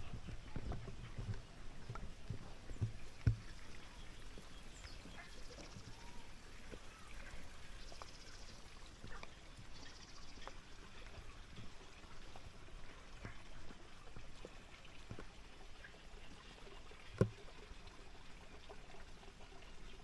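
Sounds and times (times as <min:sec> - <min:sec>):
water trickling: 0:00.0 - 0:20.0.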